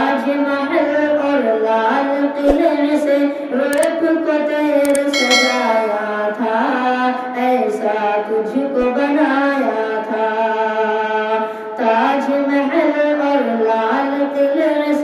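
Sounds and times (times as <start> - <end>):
boy singing into a microphone: 0.0 - 15.0.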